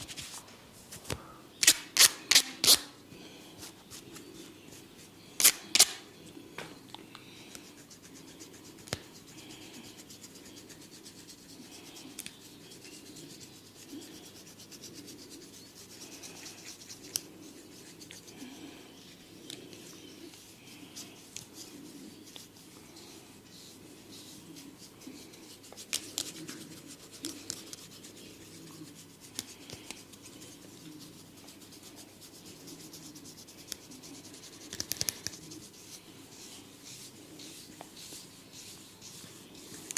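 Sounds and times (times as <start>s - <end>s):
rubbing and scratching through hair: 0.0s - 6.1s, 7.3s - 39.9s.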